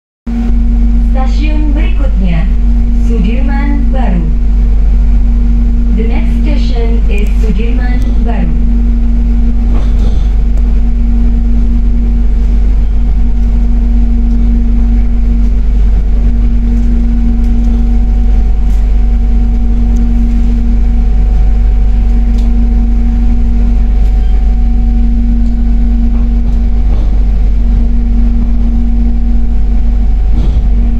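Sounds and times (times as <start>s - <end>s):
constant humming tone: 0.3s - 30.9s
train cabin rumble: 0.3s - 30.9s.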